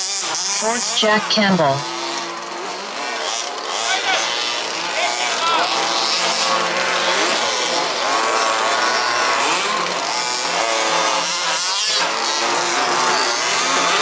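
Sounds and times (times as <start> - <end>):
rc buggy engines racing: 0.0 - 14.0.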